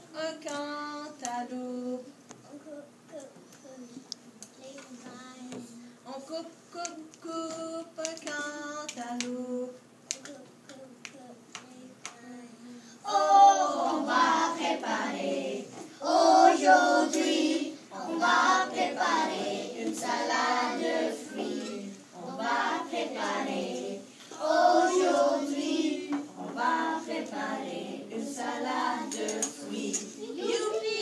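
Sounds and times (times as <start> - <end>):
children and woman singing: 0.0 - 2.2, 5.0 - 31.0.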